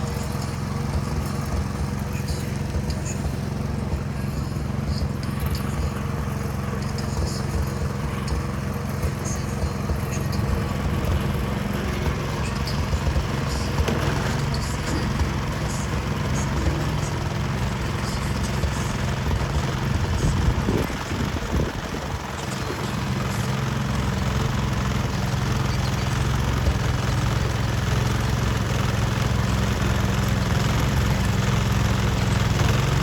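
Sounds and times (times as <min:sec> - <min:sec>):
snowblower engine running: 0:00.0 - 0:33.0.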